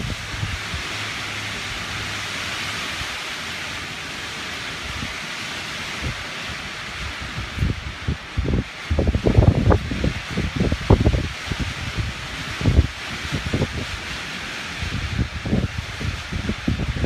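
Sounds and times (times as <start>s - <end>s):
wind buffeting on microphone: 0.0s - 3.3s, 4.2s - 17.0s
wind rushing through trees: 0.0s - 17.0s.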